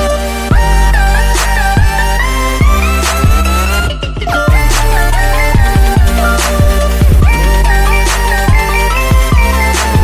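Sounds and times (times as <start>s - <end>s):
pop r and b track with heavy bass: 0.0s - 10.0s.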